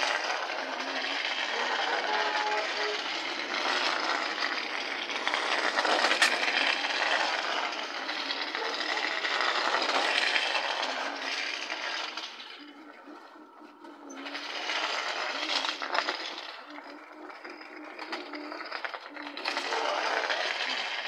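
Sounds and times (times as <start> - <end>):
toy car rattling over bricks: 0.0 - 21.0.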